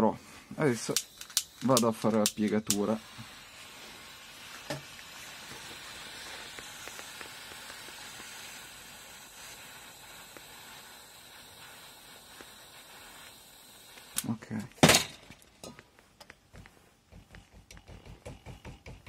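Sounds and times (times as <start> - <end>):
torch burning with hiss: 0.0 - 19.0.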